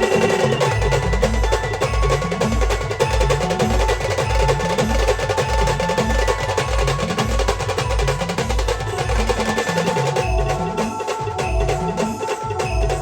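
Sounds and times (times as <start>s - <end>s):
fast rattling percussion: 0.0s - 13.0s.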